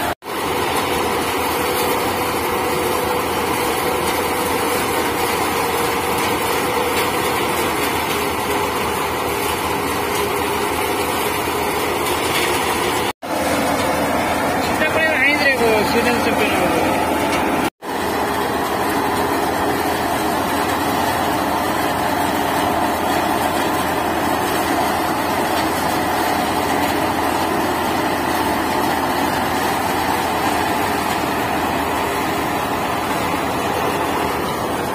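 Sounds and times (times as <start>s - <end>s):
thresher machine running: 0.0s - 34.9s.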